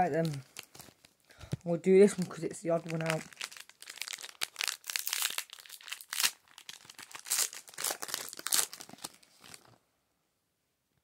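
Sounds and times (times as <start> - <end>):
foil wrapper crinkling and tearing: 0.0 - 1.2, 1.9 - 9.8.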